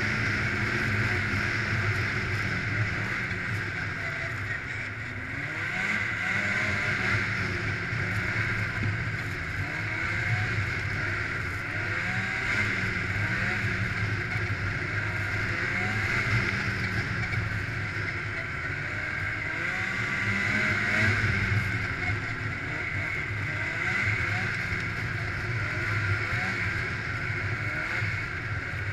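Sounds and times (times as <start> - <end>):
snowmobile engine running: 0.0 - 28.9.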